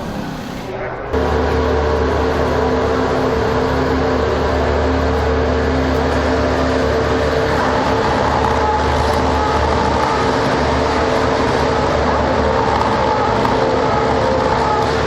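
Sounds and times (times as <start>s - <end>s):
racing car engine running: 1.1s - 15.0s.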